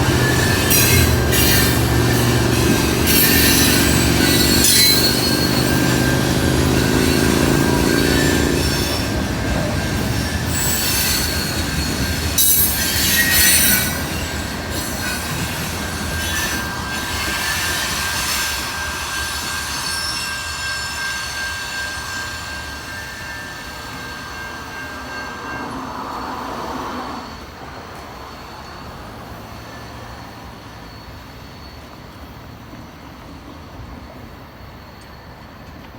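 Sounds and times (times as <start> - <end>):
wheels squealing and screeching: 0.0 - 31.9
train cars rolling past: 0.0 - 35.9.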